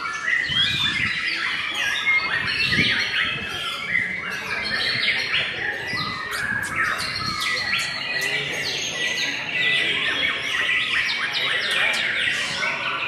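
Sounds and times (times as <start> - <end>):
songbird singing whistles and trills: 0.0 - 12.7.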